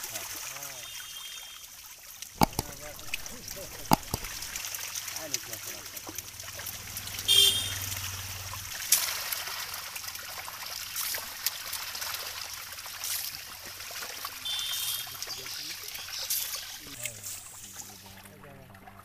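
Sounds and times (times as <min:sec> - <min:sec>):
fish splashing at water surface: 0:00.0 - 0:19.0.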